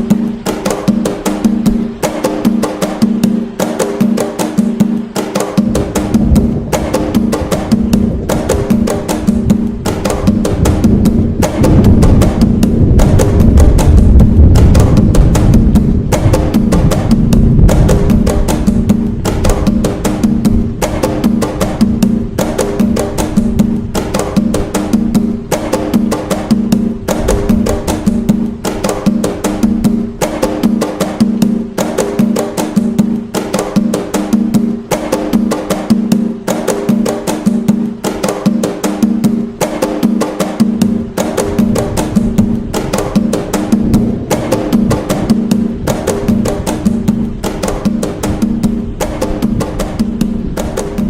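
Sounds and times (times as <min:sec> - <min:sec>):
hand drums playing: 0:00.0 - 0:51.0.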